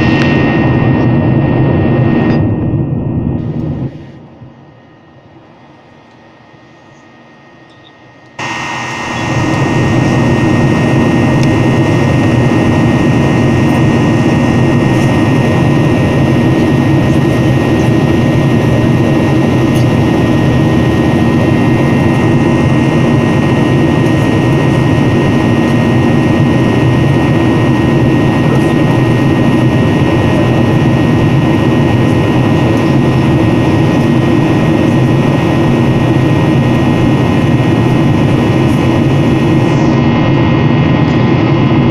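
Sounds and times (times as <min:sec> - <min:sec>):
jet engines roaring with whine: 0:00.0 - 0:41.9.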